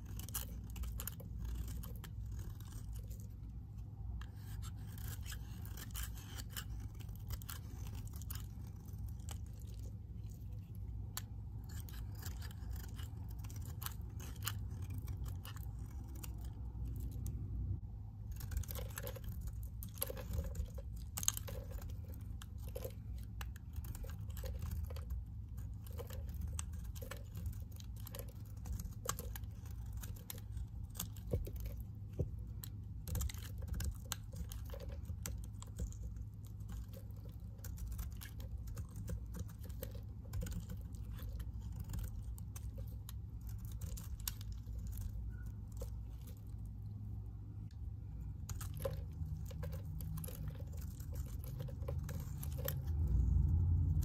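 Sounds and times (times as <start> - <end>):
knife shaving soap: 0.0 - 54.0
low steady hum: 0.0 - 54.0.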